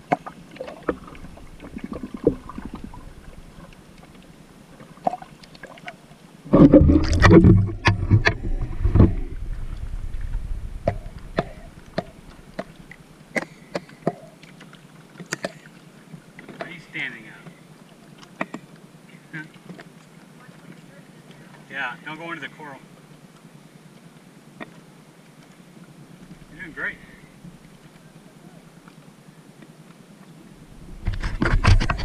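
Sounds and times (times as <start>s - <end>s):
muffled water noise: 0.0s - 32.0s
water splashing and sloshing: 0.0s - 32.0s.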